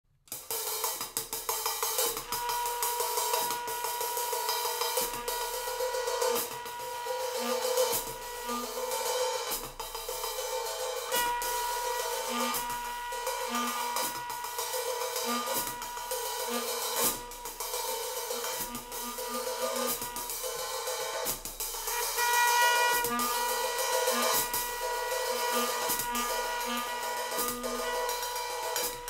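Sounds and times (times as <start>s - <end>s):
drum kit with hi-hat and cymbals: 0.3s - 29.0s
steady held tone: 2.0s - 29.0s
electronic drone: 2.2s - 29.0s.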